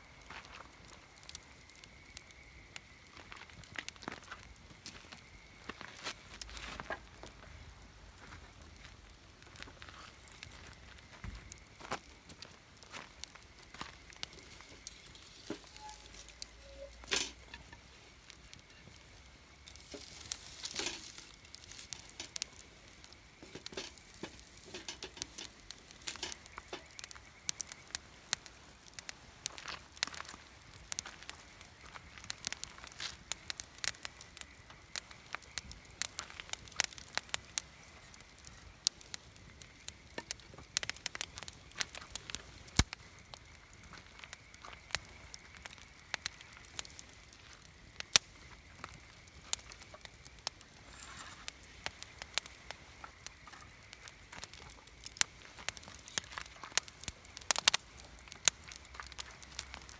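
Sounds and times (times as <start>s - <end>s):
campfire crackling and popping: 0.0s - 59.9s
faint hiss: 0.0s - 59.9s
sharp snaps of fire: 0.1s - 59.9s.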